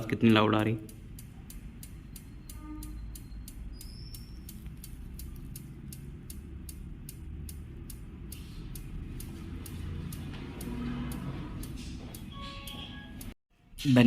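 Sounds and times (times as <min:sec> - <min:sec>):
turn-signal flasher ticking: 0:00.0 - 0:13.4.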